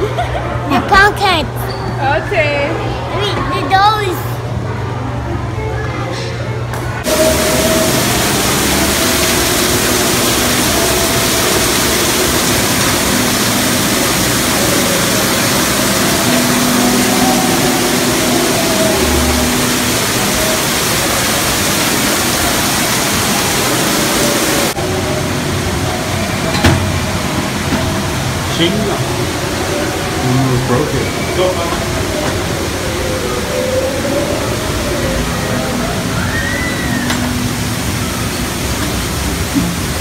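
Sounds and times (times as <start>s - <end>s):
loud rushing noise: 6.9s - 40.0s.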